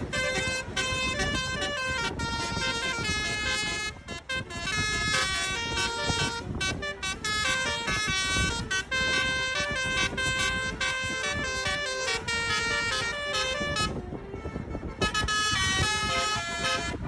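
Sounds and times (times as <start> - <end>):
multi-tone air horn tune: 0.0 - 17.0.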